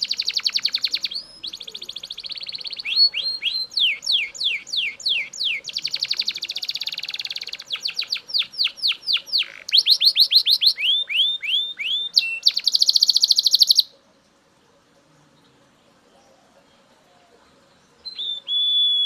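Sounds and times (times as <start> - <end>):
canary singing with trills: 0.0 - 19.0.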